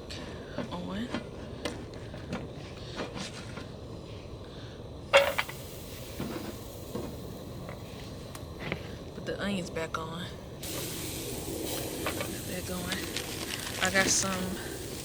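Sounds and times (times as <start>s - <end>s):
camp stove hiss: 0.0s - 15.0s.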